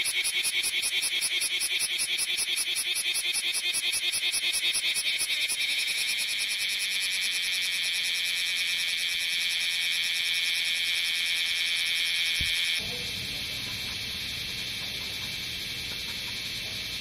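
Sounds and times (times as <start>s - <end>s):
cicada buzzing: 0.0s - 17.0s.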